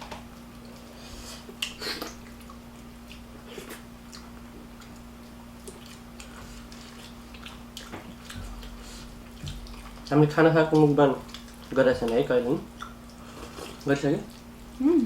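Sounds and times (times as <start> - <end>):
steady low hum: 0.0 - 15.0
chewing and mouth clicks: 1.5 - 14.8.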